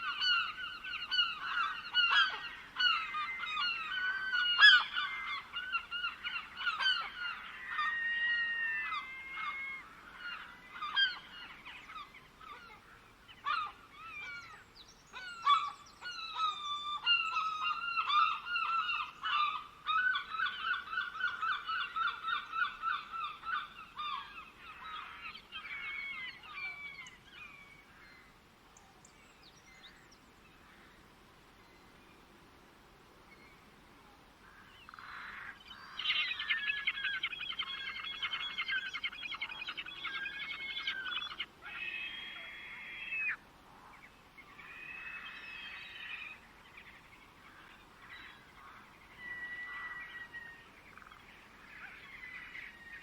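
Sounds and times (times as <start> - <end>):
flock of birds calling: 0.0 - 28.3, 34.4 - 53.0.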